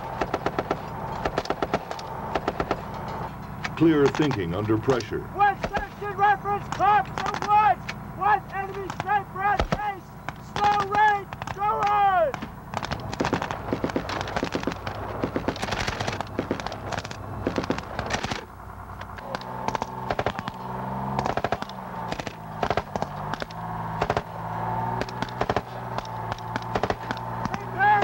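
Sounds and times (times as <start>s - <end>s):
rifles and machine guns firing: 0.0s - 28.0s
steady low hum: 0.0s - 28.0s.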